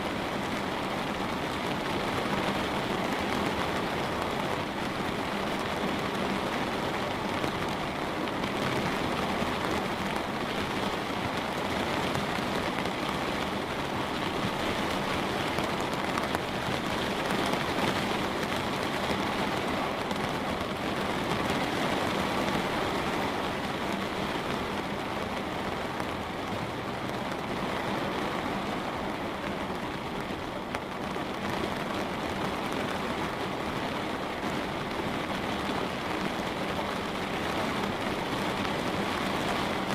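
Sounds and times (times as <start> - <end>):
light rain on a window: 0.0 - 39.9.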